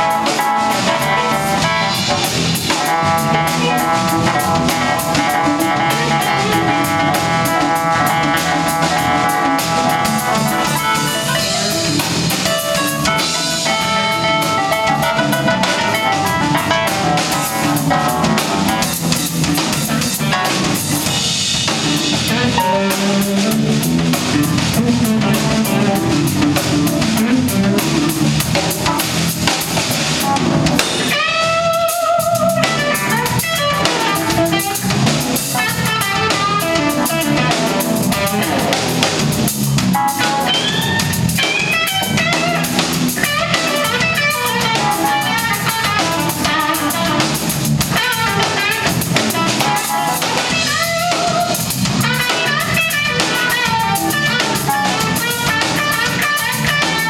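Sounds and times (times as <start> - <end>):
live funk band playing: 0.0 - 57.0.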